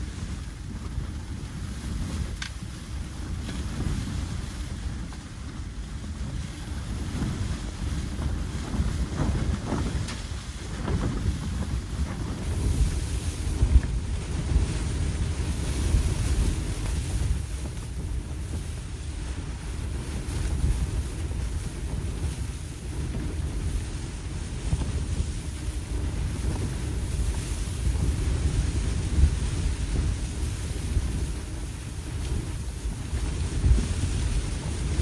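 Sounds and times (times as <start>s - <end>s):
blizzard wind buffeting microphone: 0.0s - 35.0s.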